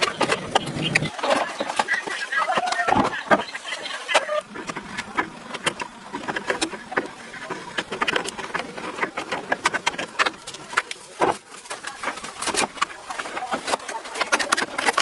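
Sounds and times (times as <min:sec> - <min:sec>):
rapid irregular clicking: 0:00.0 - 0:15.0.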